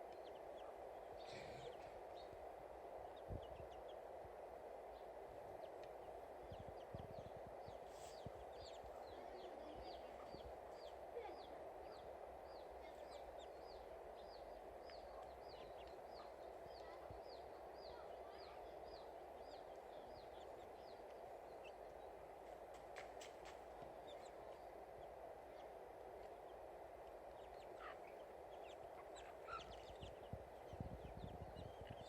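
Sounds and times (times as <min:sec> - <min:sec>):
faint hiss: 0:00.0 - 0:32.0
bird chirping: 0:04.9 - 0:32.0.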